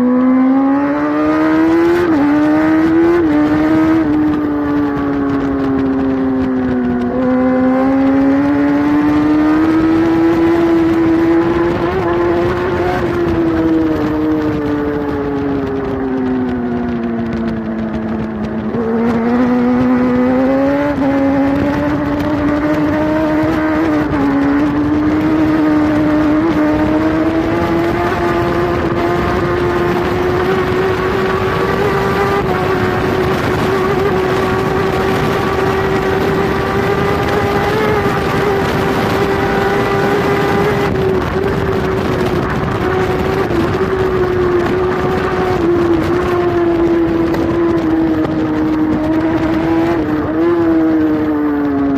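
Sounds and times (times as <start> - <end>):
motorcycle engine at high revs: 0.0 - 51.9
wind rush: 0.0 - 51.9.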